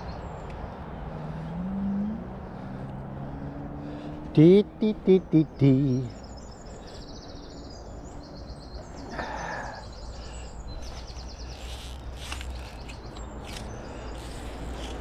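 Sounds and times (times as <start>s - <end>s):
songbirds trilling: 0.0s - 15.0s.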